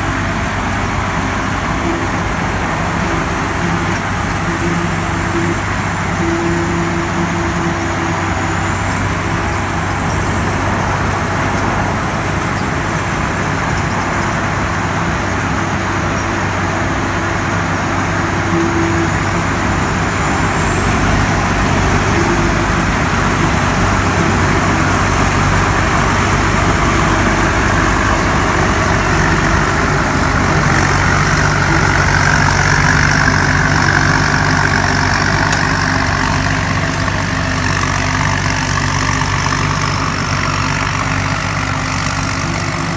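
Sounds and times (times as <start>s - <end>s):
combine harvester running: 0.0s - 42.9s
thin high whine: 0.0s - 42.9s.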